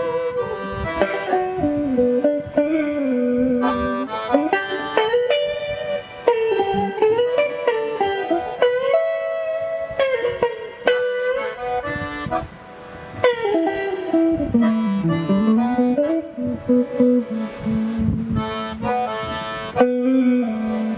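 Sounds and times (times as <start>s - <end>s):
accordion notes: 0.0s - 20.9s
plucked guitar: 0.0s - 20.9s.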